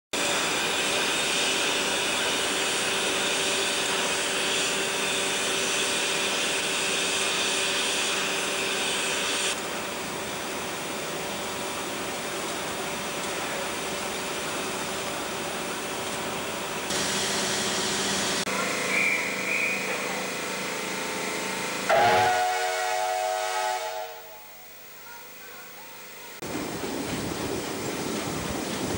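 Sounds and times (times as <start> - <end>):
steam hissing from locomotive: 0.2 - 28.9.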